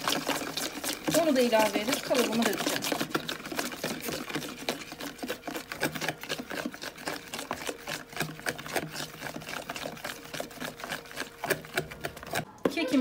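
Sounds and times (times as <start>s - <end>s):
whisk rattling in plastic bowl: 0.0s - 13.0s.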